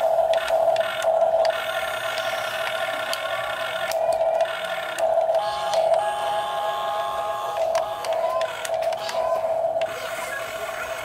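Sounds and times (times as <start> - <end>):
toy excavator motors whining: 0.0 - 11.0.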